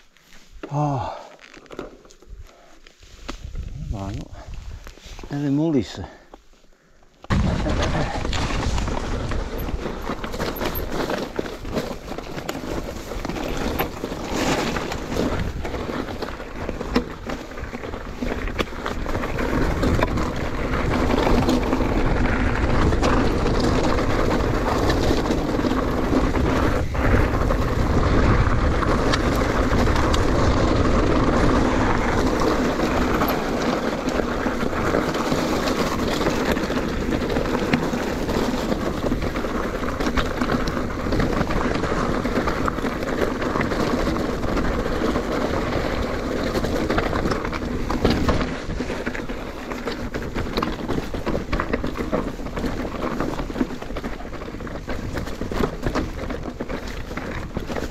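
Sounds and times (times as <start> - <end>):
wind rumbling on microphone: 3.3 - 5.4, 7.3 - 57.9
bike tyres rattling over ground: 7.2 - 57.9.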